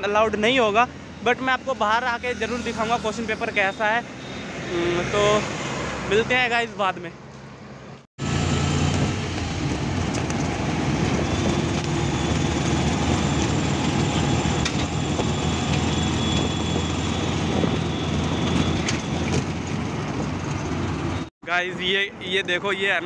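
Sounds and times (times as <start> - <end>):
road and traffic noise: 0.0 - 23.0
auto-rickshaw engine droning: 1.0 - 6.4, 8.2 - 21.3.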